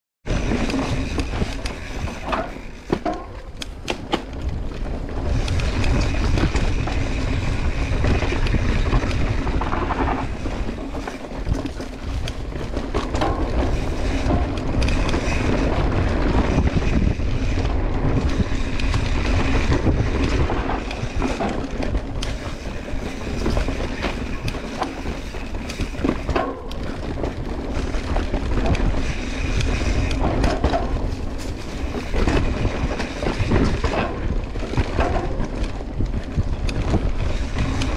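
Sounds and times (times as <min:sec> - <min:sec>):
bike clicks and rattles: 0:00.3 - 0:37.9
bike tyres rumbling on rough ground: 0:00.3 - 0:37.9.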